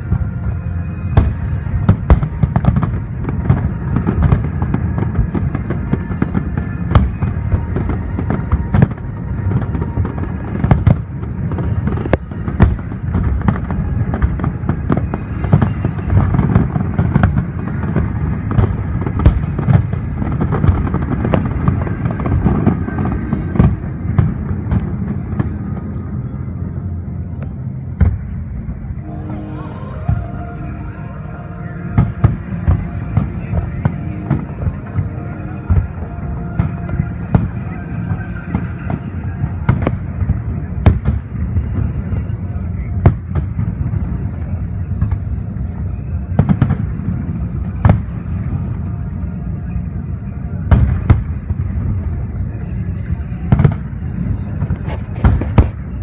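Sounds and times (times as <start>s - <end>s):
fireworks bangs and crackles: 0.0s - 56.0s
low rumble of bursts: 0.0s - 56.0s.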